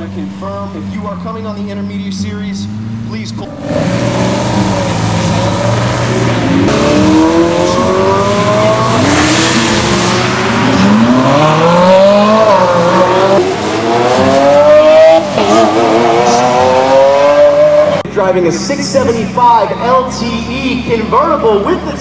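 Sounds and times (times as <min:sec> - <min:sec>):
sports car engines accelerating: 0:00.0 - 0:22.0.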